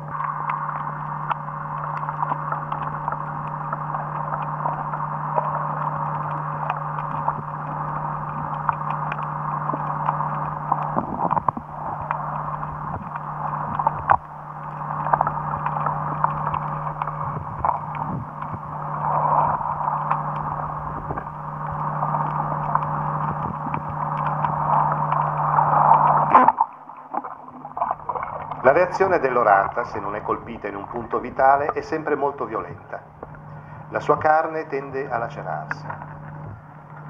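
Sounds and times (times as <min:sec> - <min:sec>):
crackles and clicks: 0:00.0 - 0:37.0
steady low hum: 0:00.0 - 0:37.0
underwater rushing noise: 0:00.0 - 0:37.0.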